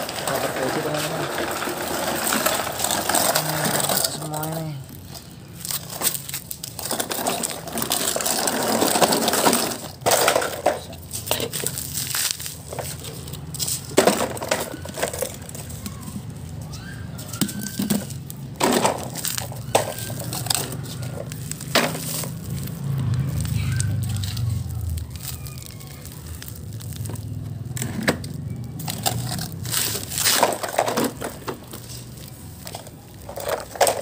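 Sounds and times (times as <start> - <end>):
plastic toy parts clicking: 0.0 - 34.0.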